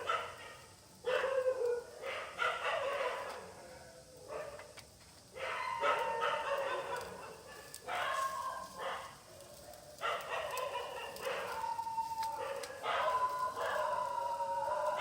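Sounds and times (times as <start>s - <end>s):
dog barking and yelping: 0.0s - 3.5s, 5.4s - 15.0s.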